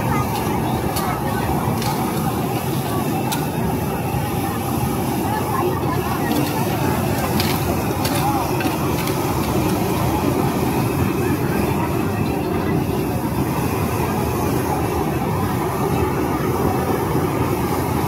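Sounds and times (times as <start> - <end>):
gas wok burners roaring: 0.0 - 18.0.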